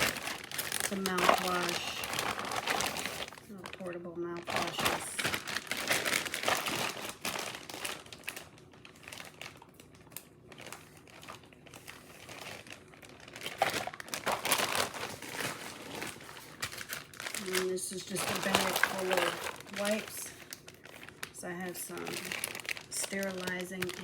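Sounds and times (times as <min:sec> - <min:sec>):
plastic bags crinkling: 0:00.0 - 0:24.0.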